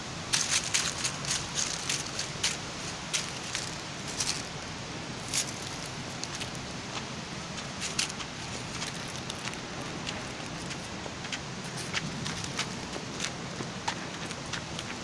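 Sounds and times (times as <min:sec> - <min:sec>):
dry leaves rustling: 0:00.0 - 0:15.0
low background noise: 0:00.0 - 0:15.0
sharp crackles: 0:00.2 - 0:15.0.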